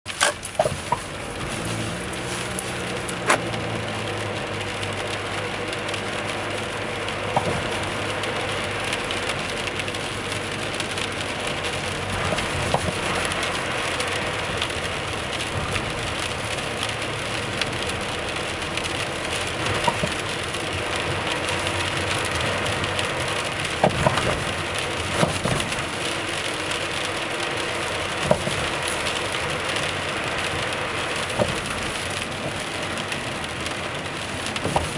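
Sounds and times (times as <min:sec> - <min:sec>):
car road noise: 0:00.0 - 0:34.9.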